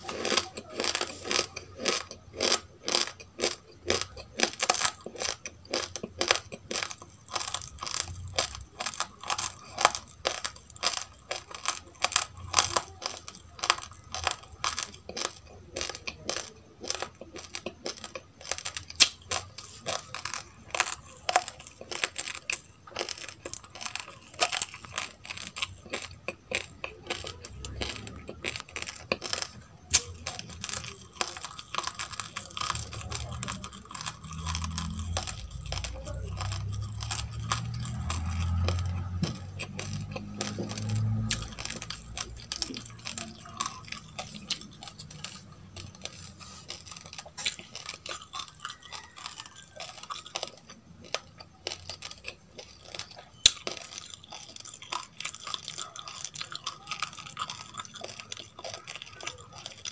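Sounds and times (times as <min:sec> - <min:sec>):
crunchy food chewing: 0:00.0 - 0:59.9.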